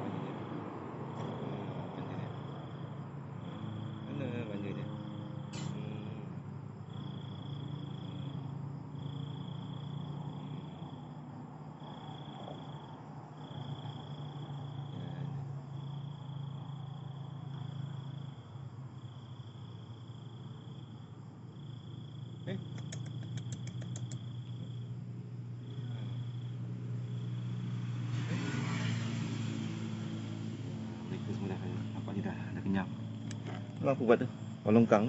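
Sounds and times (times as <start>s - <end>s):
night insects trilling: 0.0s - 35.0s.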